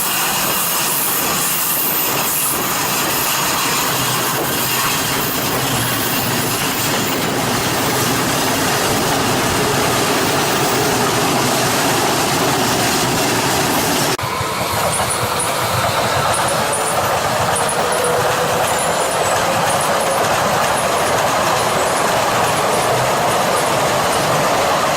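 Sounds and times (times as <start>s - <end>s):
train wheels on rails: 0.0s - 24.9s.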